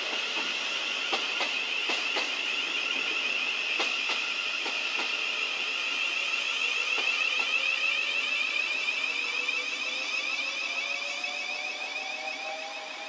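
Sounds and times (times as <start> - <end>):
train warbling squeal: 0.0 - 13.0.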